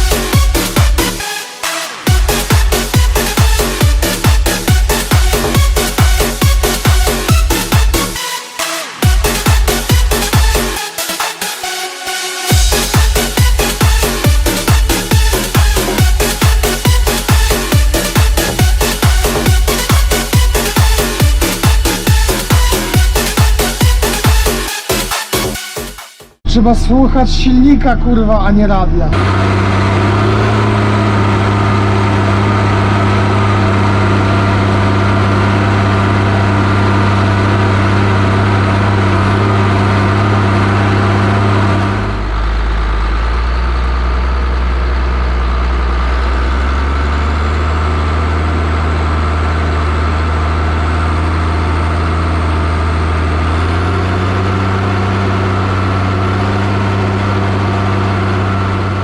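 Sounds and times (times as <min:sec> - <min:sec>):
tractor diesel engine running: 0:00.0 - 0:11.1, 0:12.5 - 0:25.6, 0:26.4 - 0:59.0.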